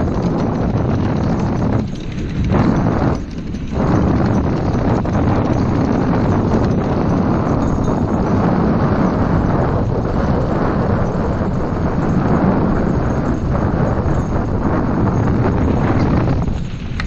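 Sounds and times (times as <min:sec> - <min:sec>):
wheels rattling over wooden bridge: 0:00.0 - 0:17.0.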